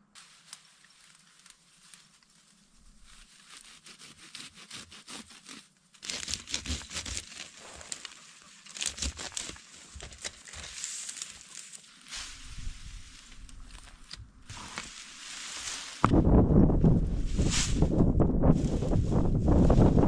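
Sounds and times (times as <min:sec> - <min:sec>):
irregular crackling and crinkling: 0:00.0 - 0:04.5, 0:05.2 - 0:20.0.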